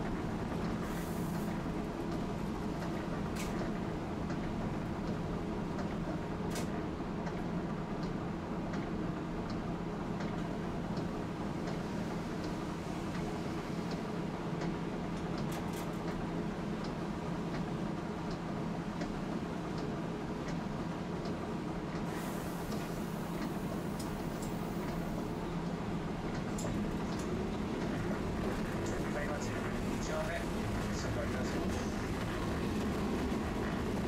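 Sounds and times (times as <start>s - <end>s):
streetcar hum and rumble: 0.0s - 34.0s.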